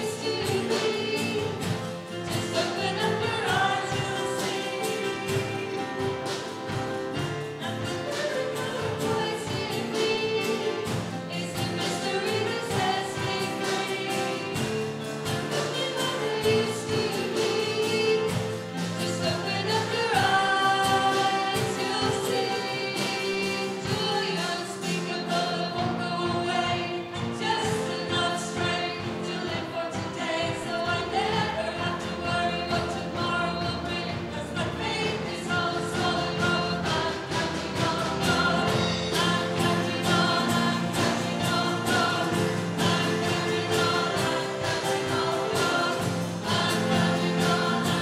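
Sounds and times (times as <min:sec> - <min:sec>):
band backing: 0:00.0 - 0:48.0
voices singing a hymn: 0:00.0 - 0:48.0.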